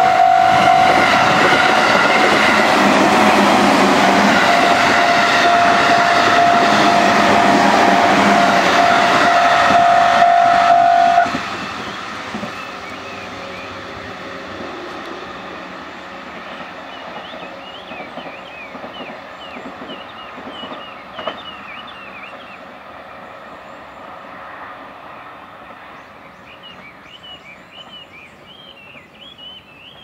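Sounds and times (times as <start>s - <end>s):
electric train rail noise: 0.0s - 30.0s.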